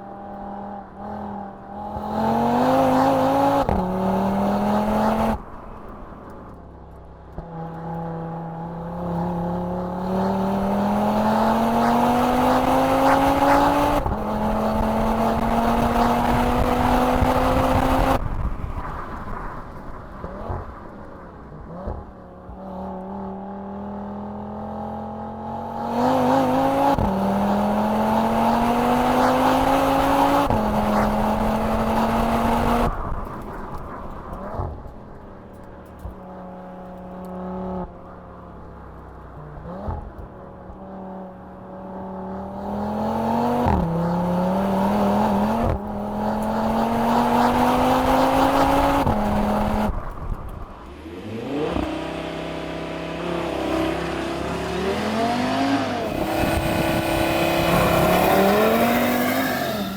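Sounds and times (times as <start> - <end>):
car engine accelerating hard: 0.0 - 5.7, 7.3 - 19.4, 21.6 - 59.9.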